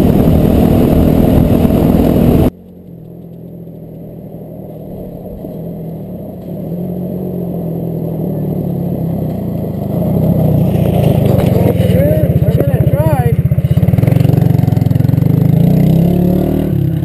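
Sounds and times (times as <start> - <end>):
dirt bike engine idling: 0.0 - 15.7
quad engine approaching: 0.0 - 17.0.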